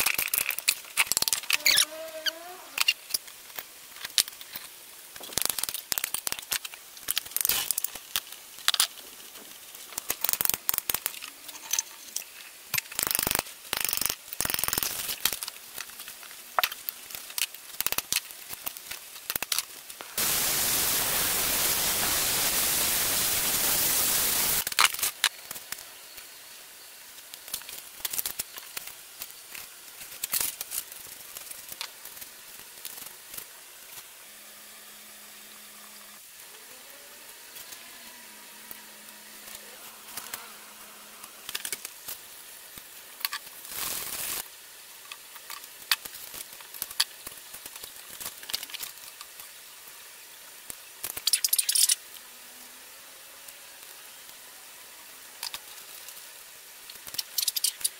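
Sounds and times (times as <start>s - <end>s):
copper windings crackling and tearing: 0.0s - 20.2s, 24.5s - 25.9s, 27.1s - 34.1s, 36.2s - 50.0s, 50.6s - 52.2s, 55.3s - 57.9s
steady hiss: 0.0s - 57.9s.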